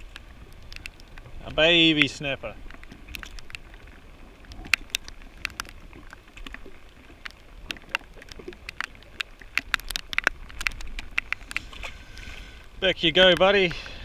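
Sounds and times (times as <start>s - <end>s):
raindrops striking camera: 0.0s - 12.0s, 12.8s - 14.0s.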